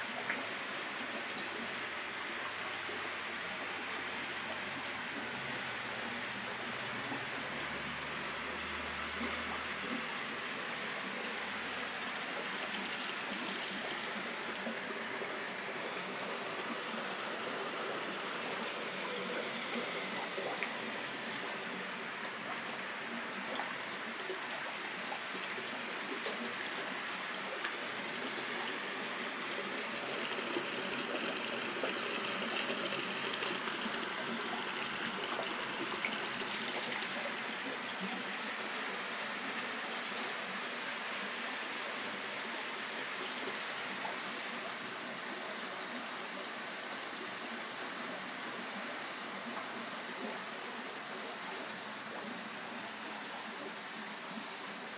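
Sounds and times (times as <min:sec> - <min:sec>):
water trickling into pond: 0:00.0 - 0:54.9.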